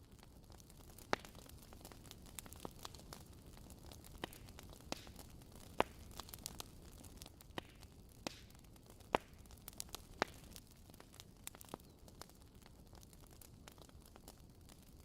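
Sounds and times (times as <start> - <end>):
wood fire crackling: 0.0 - 15.0
fire popping sharply: 0.5 - 14.8.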